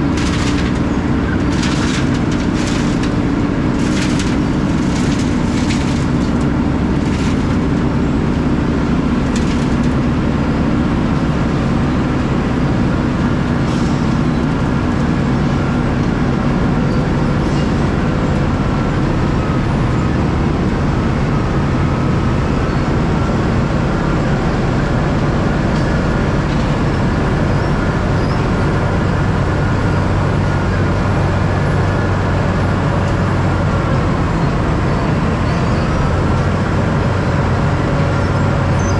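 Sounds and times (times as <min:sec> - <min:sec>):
diesel truck engine droning: 0:00.0 - 0:38.9
road noise: 0:00.0 - 0:38.9.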